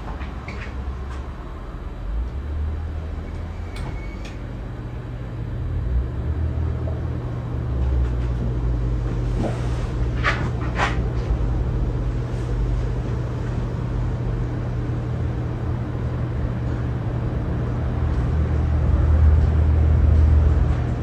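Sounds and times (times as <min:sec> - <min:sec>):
ceiling fan airflow rumble: 0:00.0 - 0:21.0
faint motor hum: 0:00.0 - 0:21.0.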